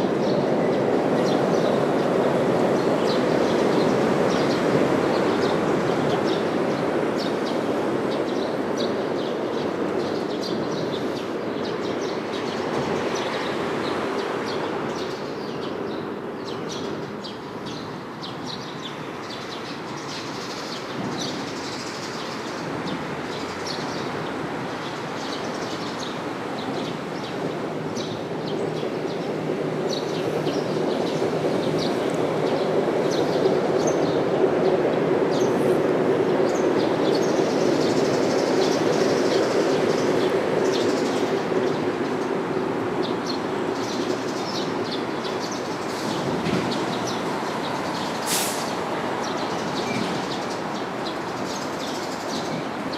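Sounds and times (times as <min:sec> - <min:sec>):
small birds chirping: 0:00.2 - 0:52.9.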